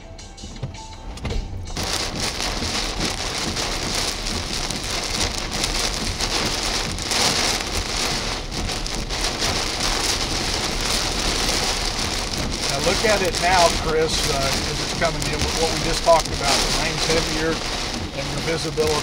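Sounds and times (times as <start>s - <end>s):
heavy rain pouring: 1.3s - 19.0s.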